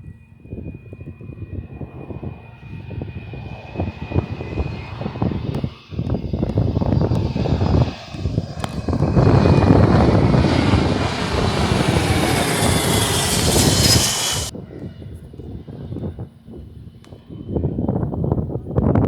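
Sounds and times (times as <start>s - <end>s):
jet airliner flying past: 0.0s - 17.8s.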